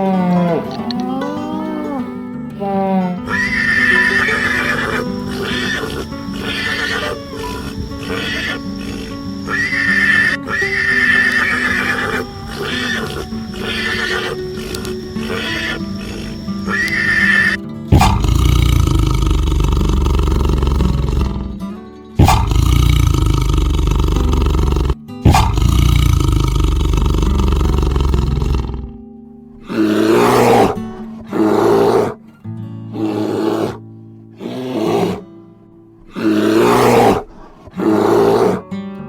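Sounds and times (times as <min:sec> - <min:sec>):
big cat roaring: 0:00.0 - 0:21.6, 0:22.2 - 0:29.0, 0:29.6 - 0:32.2, 0:32.9 - 0:33.8, 0:34.4 - 0:35.3, 0:36.0 - 0:38.7
donkey braying: 0:00.0 - 0:21.6, 0:22.2 - 0:29.0, 0:29.6 - 0:32.2, 0:33.0 - 0:33.8, 0:36.0 - 0:38.7.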